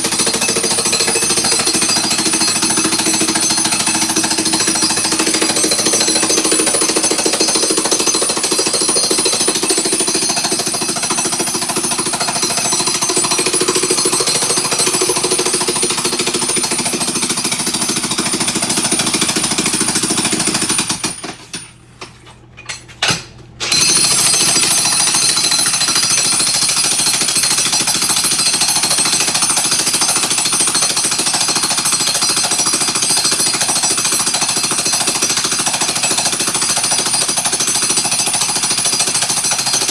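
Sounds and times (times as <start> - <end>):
jackhammer breaking floor tile: 0.0 - 21.8, 23.0 - 39.9.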